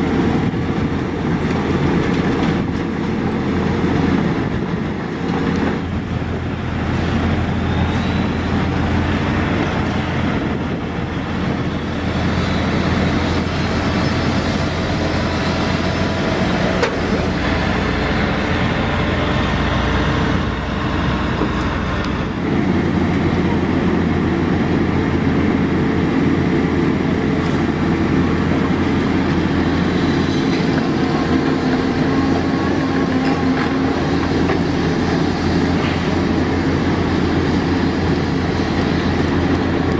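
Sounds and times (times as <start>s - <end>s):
paving machinery engine drone: 0.0s - 39.9s.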